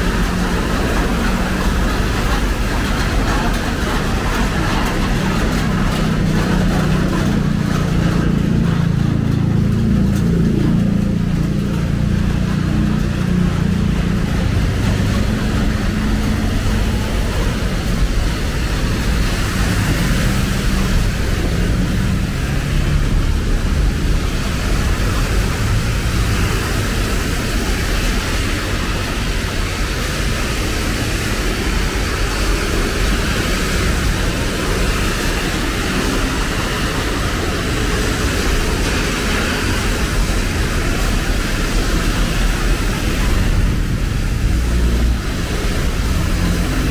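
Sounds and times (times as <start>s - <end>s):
car and motorbike engines: 0.0s - 46.9s
motor scooter engine: 0.0s - 46.9s
tyres hissing on wet road: 0.0s - 46.9s.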